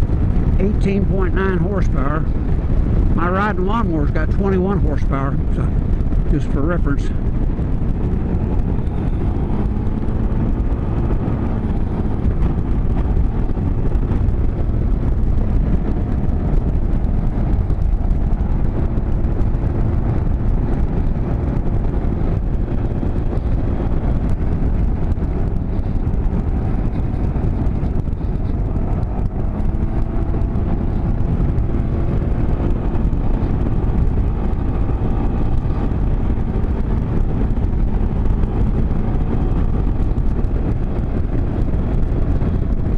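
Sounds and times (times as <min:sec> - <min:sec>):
road and wind noise: 0:00.0 - 0:42.9.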